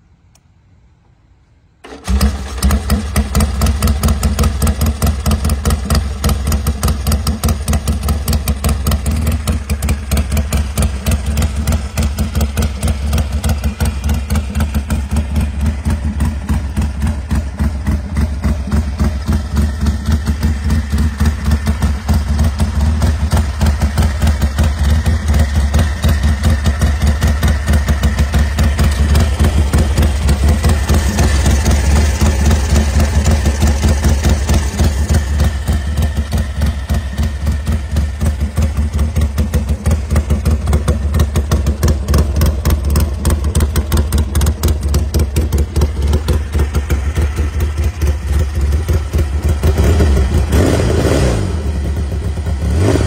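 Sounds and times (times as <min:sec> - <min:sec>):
motorcycle engine idling: 0:01.9 - 0:53.0.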